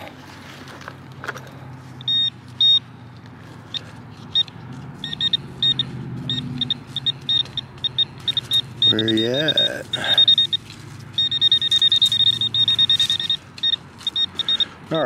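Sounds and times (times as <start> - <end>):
pinpointer beeping: 2.0 - 2.9, 3.7 - 15.0.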